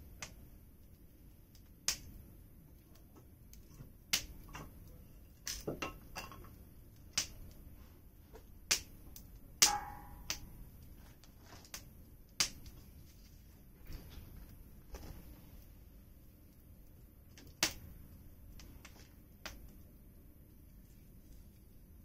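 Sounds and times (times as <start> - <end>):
firewood crackling and popping: 0.0 - 22.0.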